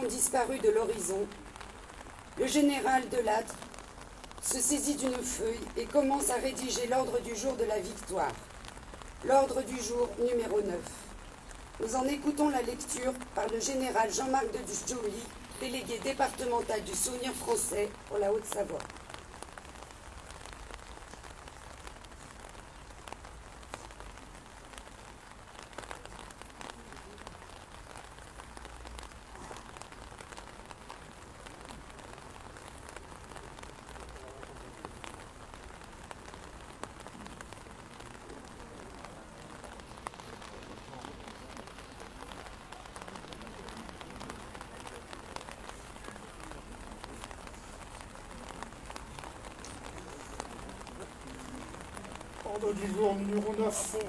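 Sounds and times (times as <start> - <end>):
rain on wet pavement: 0.0 - 54.0
raindrop ticks: 0.0 - 54.0.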